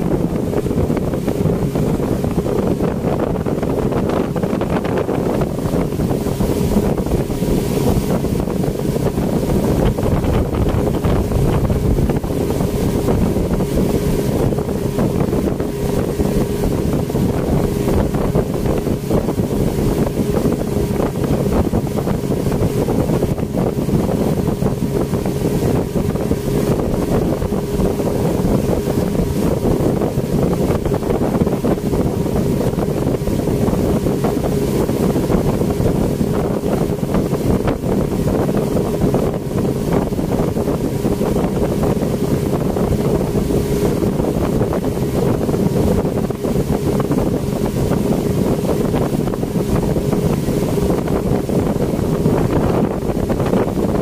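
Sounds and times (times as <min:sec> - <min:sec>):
outboard motor droning: 0:00.0 - 0:54.0
wake rushing: 0:00.0 - 0:54.0
wind buffeting microphone: 0:00.0 - 0:54.0.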